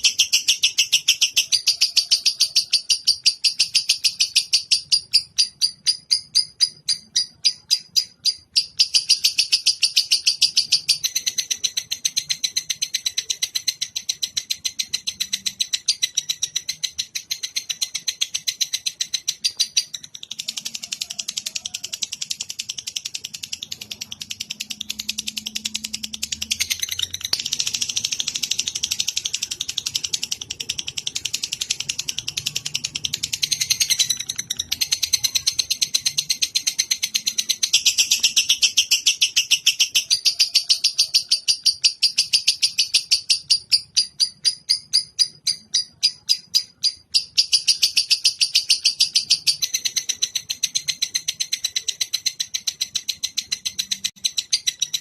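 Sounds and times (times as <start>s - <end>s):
bird chattering trill: 0.0s - 55.0s.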